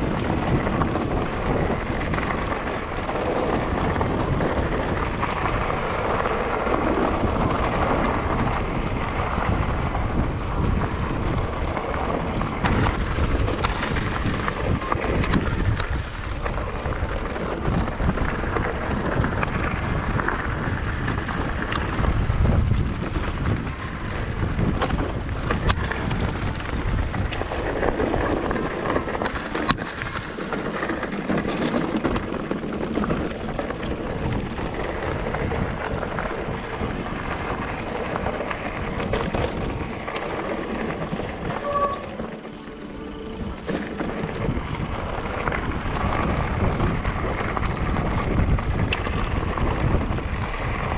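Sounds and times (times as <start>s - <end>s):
bike tyres on stony track: 0.0s - 50.9s
wind buffeting microphone: 0.0s - 50.9s.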